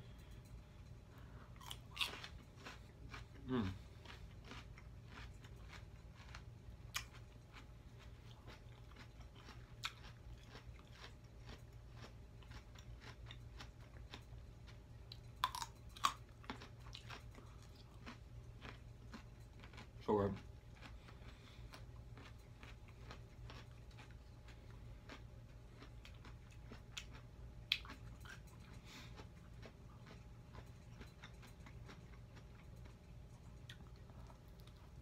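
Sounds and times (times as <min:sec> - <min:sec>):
chewing crunchy vegetables: 0:00.0 - 0:35.0.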